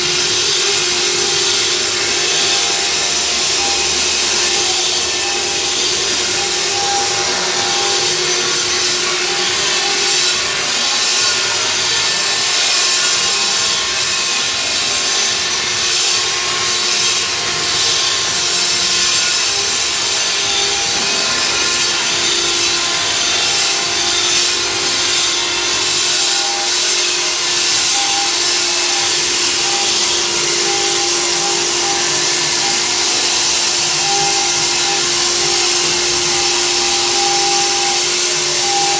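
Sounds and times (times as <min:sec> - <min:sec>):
hiss of machining stone: 0:00.0 - 0:38.9
router spindle tone: 0:00.0 - 0:38.9.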